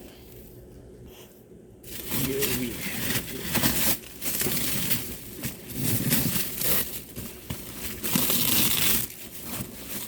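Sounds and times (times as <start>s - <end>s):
packaging crinkling: 1.9s - 10.0s.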